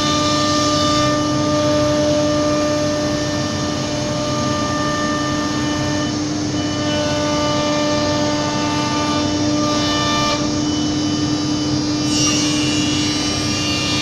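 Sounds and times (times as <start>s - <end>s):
cnc router spindle whine: 0.0s - 14.0s
machine noise: 0.0s - 14.0s.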